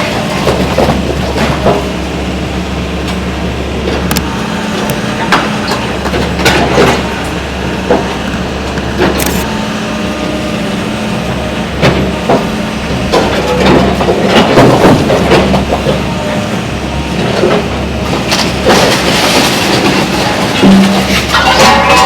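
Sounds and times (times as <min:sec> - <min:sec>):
heavy machinery engine running: 0:00.0 - 0:22.0.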